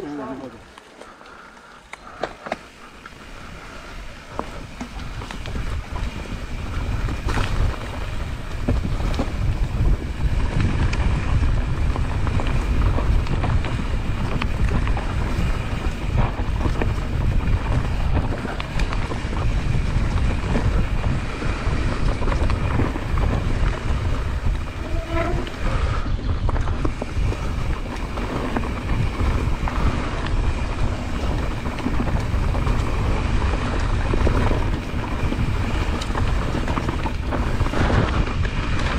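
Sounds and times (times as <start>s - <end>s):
bike clicks and knocks over bumps: 0.0s - 38.9s
mountain bike rattling on trail: 0.0s - 38.9s
wind buffeting microphone: 2.7s - 38.9s.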